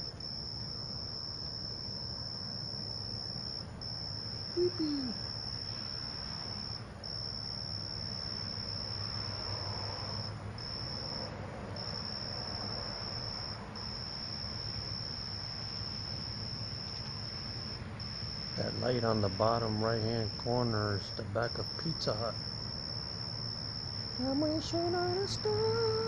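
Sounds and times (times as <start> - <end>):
insects trilling: 0.0 - 26.0
low steady hum: 0.0 - 26.0.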